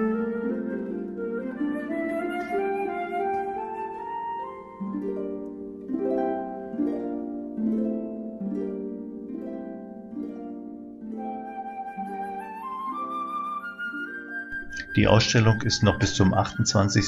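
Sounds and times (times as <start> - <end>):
harp-like plucked notes: 0.0 - 17.0
higher held melody line: 0.0 - 17.0.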